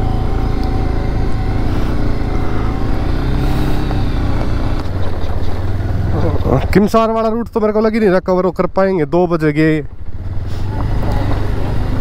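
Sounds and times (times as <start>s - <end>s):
motorcycle engine running: 0.0s - 8.2s, 9.6s - 12.0s.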